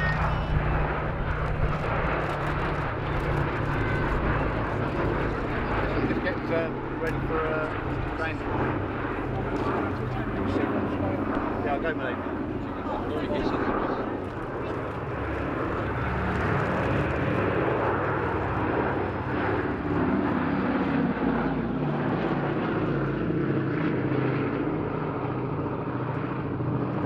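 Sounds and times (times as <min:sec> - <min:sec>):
propeller aircraft engines droning: 0:00.0 - 0:27.0.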